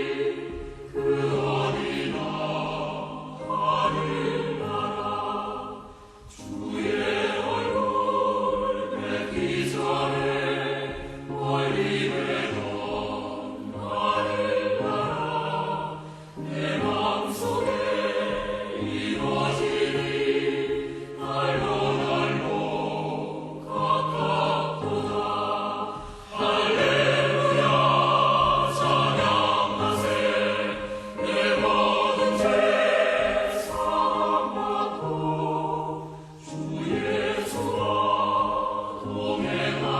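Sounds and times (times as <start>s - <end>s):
choir singing sustained chords: 0.0s - 39.9s.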